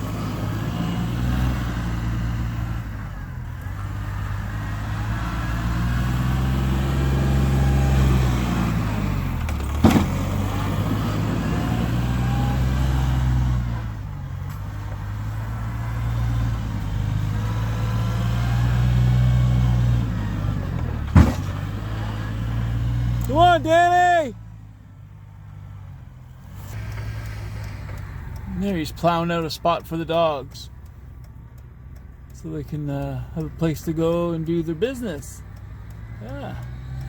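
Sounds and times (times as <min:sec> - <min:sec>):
snowplow engine: 0:00.0 - 0:37.0.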